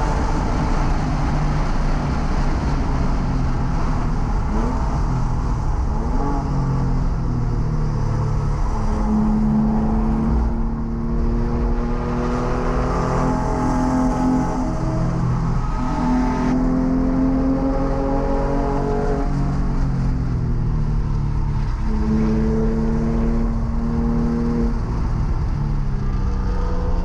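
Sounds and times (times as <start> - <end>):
car engine braking and downshifting: 0.0 - 27.0
wind and tyre noise: 0.0 - 27.0.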